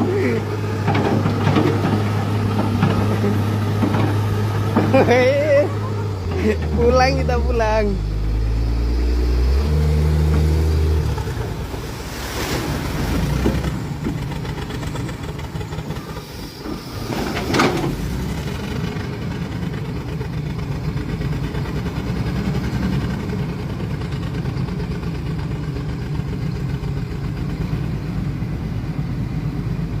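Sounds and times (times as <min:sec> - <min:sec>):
vehicle engine running: 0:00.0 - 0:17.1, 0:17.9 - 0:30.0.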